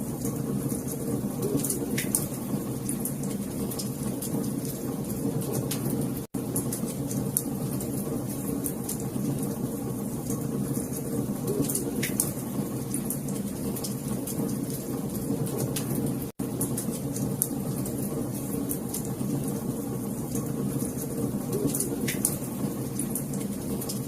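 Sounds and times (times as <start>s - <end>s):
wood fire crackling and popping: 0.1s - 24.0s.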